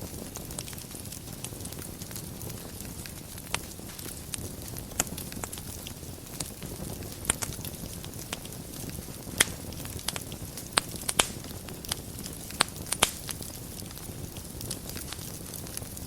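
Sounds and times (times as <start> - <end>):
fire crackles and pops: 0.0 - 16.0
fire rumbling and hissing: 0.0 - 16.0.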